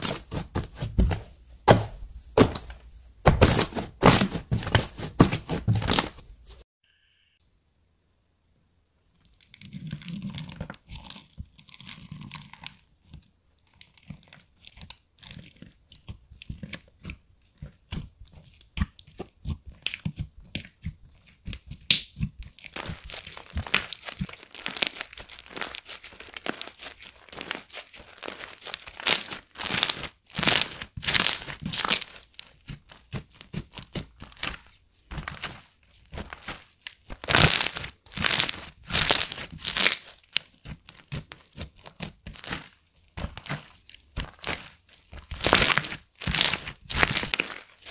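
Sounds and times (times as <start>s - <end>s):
slime crackling and popping: 9.4s - 47.9s.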